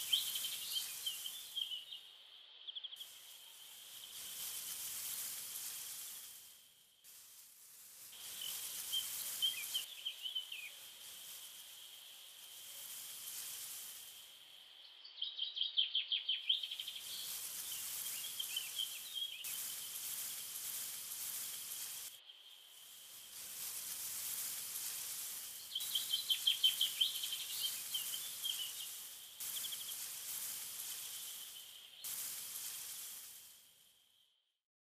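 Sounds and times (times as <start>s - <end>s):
rapid chirping trills: 0.0s - 7.1s, 8.0s - 34.3s
thin continuous high tone: 0.0s - 15.1s, 16.2s - 34.3s
steady high hiss: 0.0s - 34.5s.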